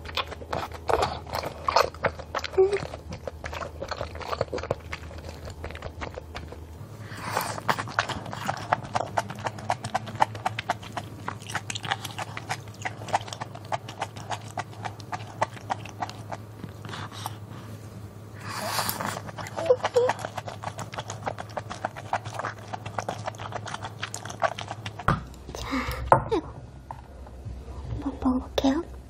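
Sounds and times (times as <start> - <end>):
wet chewing clicks and smacks: 0.0 - 6.8, 7.4 - 17.4, 18.7 - 25.7
noodles slurping: 0.0 - 17.7, 18.4 - 25.7.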